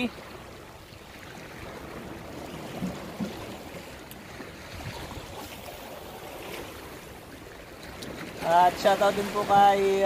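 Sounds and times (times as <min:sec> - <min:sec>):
sea water washing against rocks: 0:01.3 - 0:10.0.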